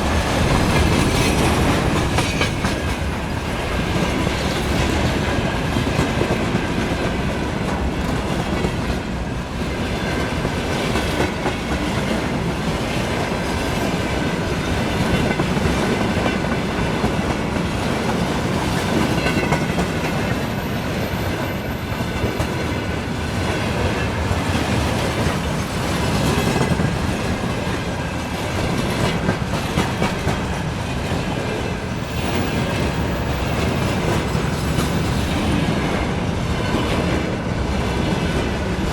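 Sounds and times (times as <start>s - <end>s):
train wheels clattering: 0.0s - 9.0s, 9.7s - 38.9s.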